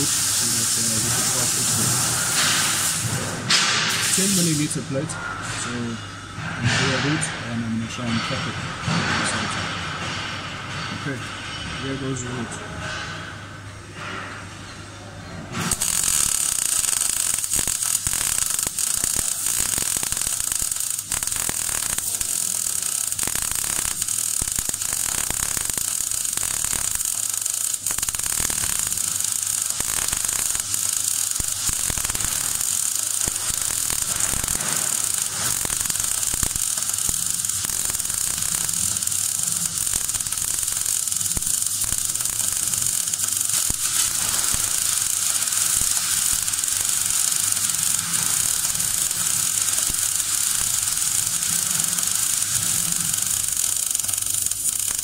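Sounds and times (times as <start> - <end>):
welding arc crackling and hissing: 0.0 - 10.9, 15.5 - 55.0.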